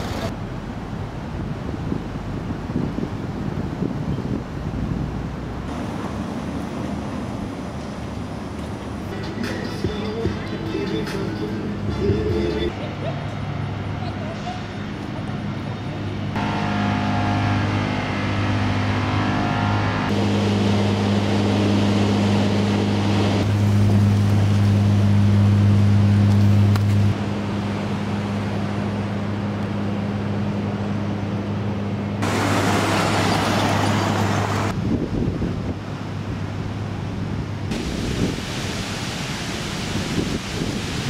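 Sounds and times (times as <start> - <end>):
vehicle engine hum: 0.0 - 38.0
road and traffic noise: 0.0 - 41.0.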